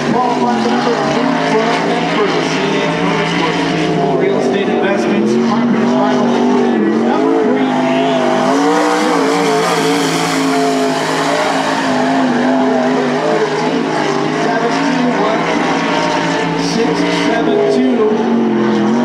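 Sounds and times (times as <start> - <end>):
race car engine running hard: 0.0 - 19.0.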